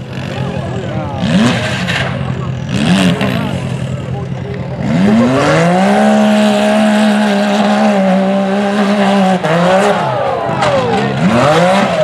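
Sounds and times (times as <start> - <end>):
buggy engine at high revs: 0.0 - 12.0.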